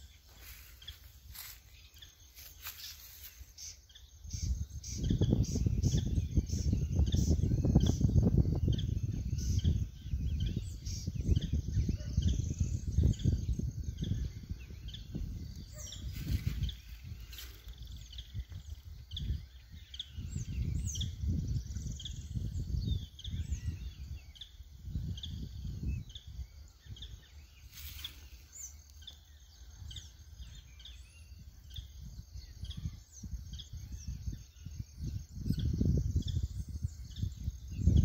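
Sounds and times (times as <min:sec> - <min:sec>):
birds chirping: 0:00.0 - 0:38.0
wind buffeting microphone: 0:03.5 - 0:38.0.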